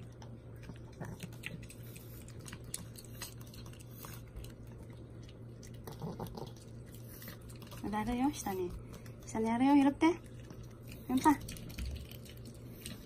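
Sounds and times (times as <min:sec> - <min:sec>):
dog crunching pepper: 0:00.0 - 0:13.0.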